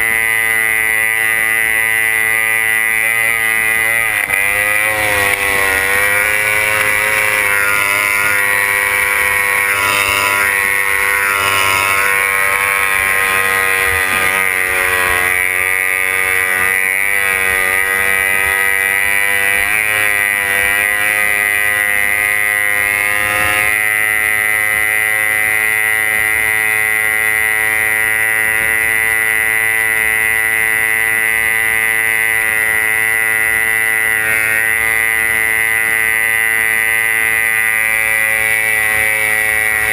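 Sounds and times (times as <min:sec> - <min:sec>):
boat engine running flat out: 0:00.0 - 0:39.9.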